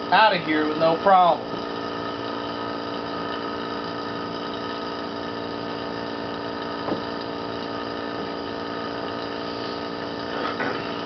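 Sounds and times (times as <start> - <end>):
vacuum pump humming: 0.0 - 11.0.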